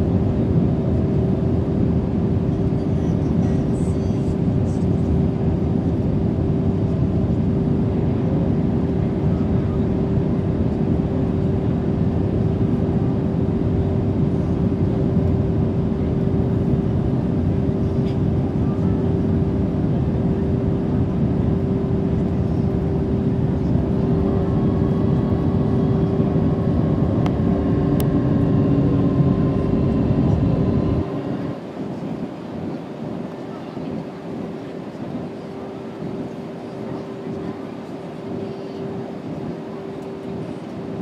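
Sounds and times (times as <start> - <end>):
aircraft cabin engine drone: 0.0 - 41.0
constant hum: 0.0 - 41.0.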